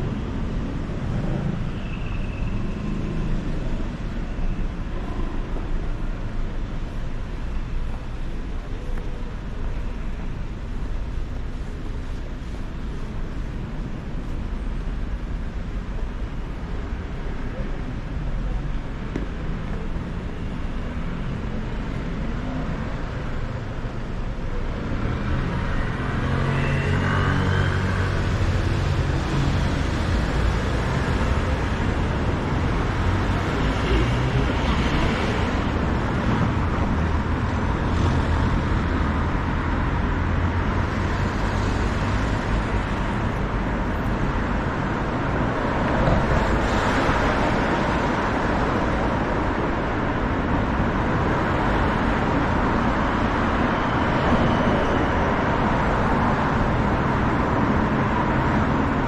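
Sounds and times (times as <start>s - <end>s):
road traffic noise: 0.0s - 59.0s.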